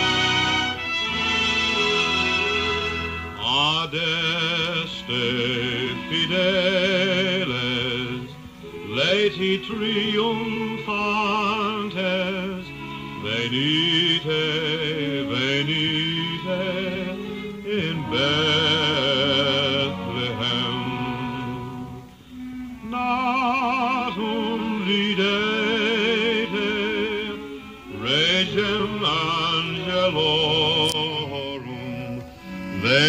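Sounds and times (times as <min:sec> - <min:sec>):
musical accompaniment: 0:00.0 - 0:33.0
singer holding vibrato notes: 0:00.0 - 0:33.0.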